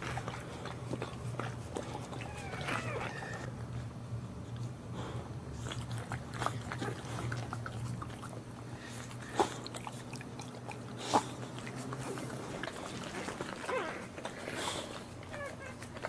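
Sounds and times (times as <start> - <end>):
dog licking puppies: 0.0 - 4.8, 5.6 - 16.0
steady low hum: 0.0 - 16.0.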